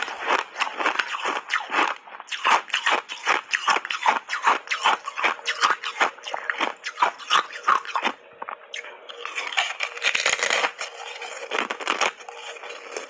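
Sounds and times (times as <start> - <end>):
chewing crunchy ice chips: 0.0 - 13.0.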